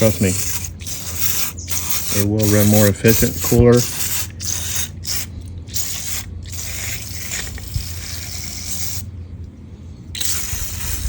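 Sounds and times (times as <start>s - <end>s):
aerosol can hissing: 0.0s - 9.0s, 10.2s - 11.0s.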